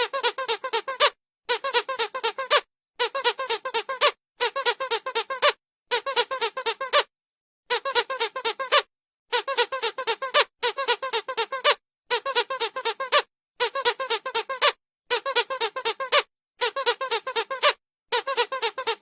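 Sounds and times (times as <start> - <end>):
squeaky dog toy squeaking: 0.0 - 7.1, 7.7 - 19.0.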